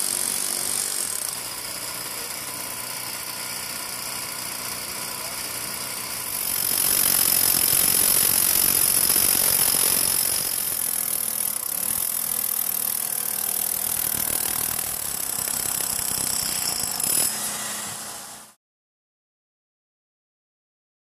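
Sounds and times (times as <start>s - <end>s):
rotary hammer drill hammering: 0.0s - 18.6s.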